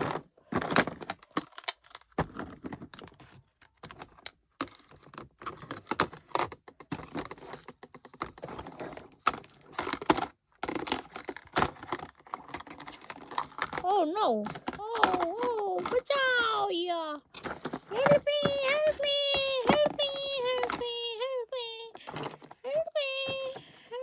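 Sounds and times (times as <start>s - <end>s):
plastic toy pieces clattering: 0.0s - 24.0s.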